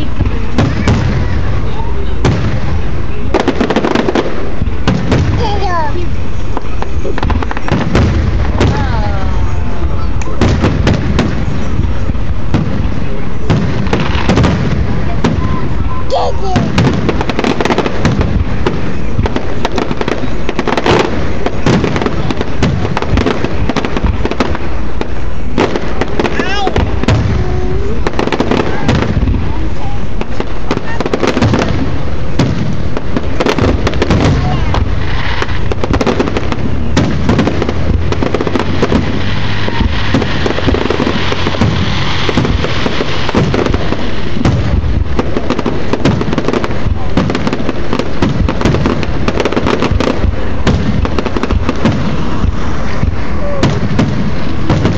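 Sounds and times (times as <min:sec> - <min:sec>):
fireworks bursts and crackling: 0:00.0 - 0:54.9.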